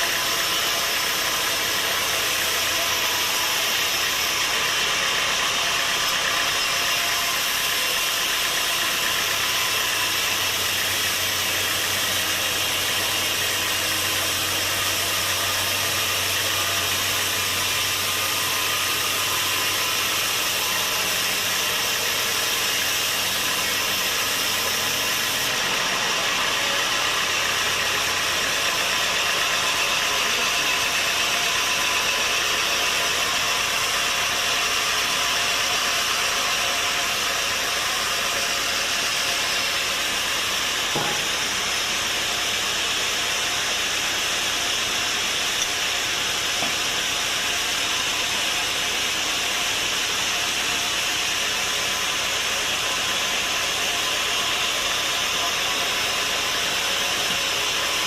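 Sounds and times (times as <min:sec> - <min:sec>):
sawmill machinery hissing: 0:00.0 - 0:58.0.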